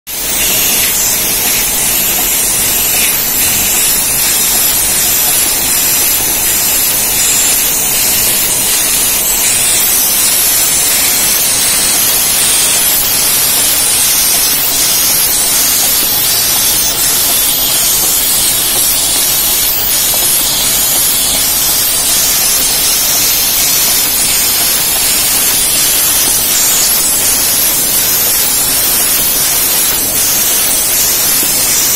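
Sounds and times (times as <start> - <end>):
machinery running with hissing din: 0.1 - 31.9.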